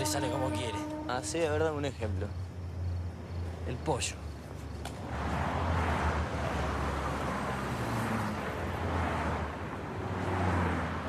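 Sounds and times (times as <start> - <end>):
cars going by: 0.0 - 11.0.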